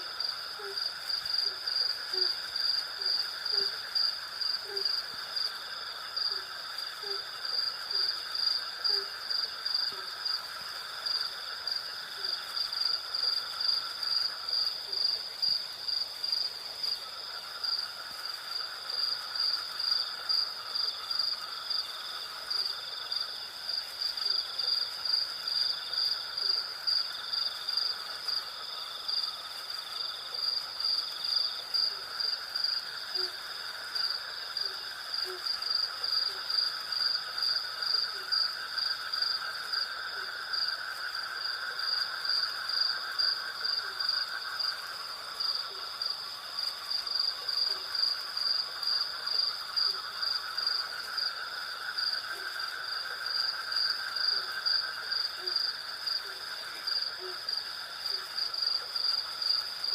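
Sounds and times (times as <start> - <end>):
low insect buzz: 0.0 - 59.9.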